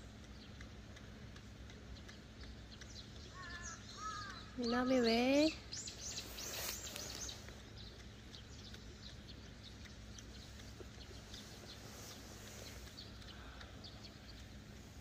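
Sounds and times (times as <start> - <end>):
low steady hum: 0.0 - 15.0
high bird chirps: 1.9 - 14.8.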